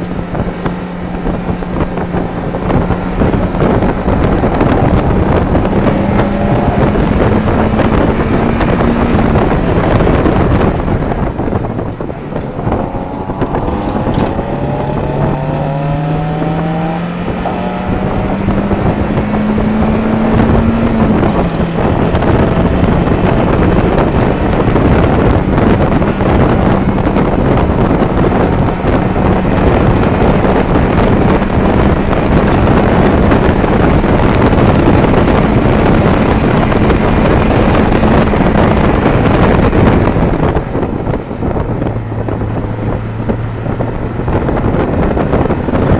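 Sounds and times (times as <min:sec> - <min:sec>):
car engine running: 0:00.0 - 0:45.9
wind and road noise: 0:00.0 - 0:45.9.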